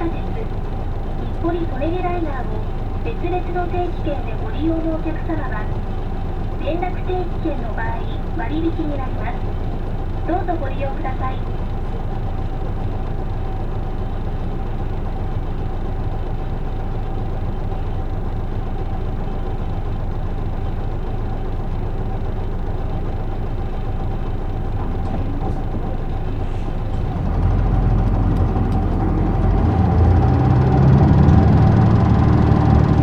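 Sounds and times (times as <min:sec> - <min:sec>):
bus engine rumble: 0:00.0 - 0:33.0.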